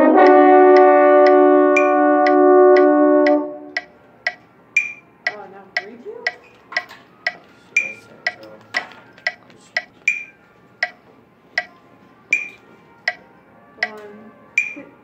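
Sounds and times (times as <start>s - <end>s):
metronome clicking: 0.2s - 11.0s, 11.6s - 13.2s, 13.8s - 14.0s, 14.6s - 14.9s.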